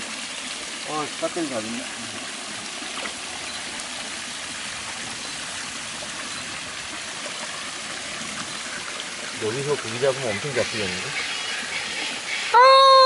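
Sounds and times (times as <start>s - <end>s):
stream flowing over pebbles: 0.0s - 13.0s.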